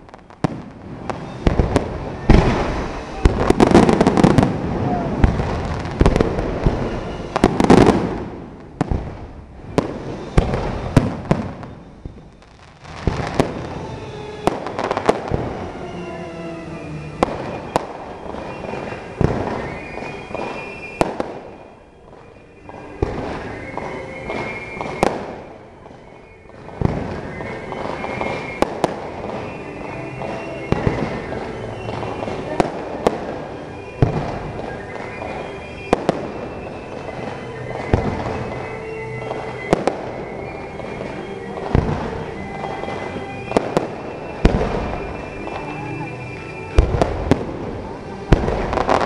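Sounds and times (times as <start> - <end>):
fireworks bangs: 0.0 - 49.0.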